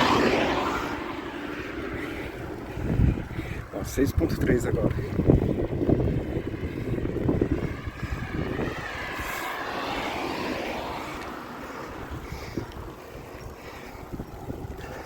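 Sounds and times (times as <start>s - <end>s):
vehicle passing on highway: 0.0s - 15.0s
wind buffeting microphone: 0.0s - 15.0s.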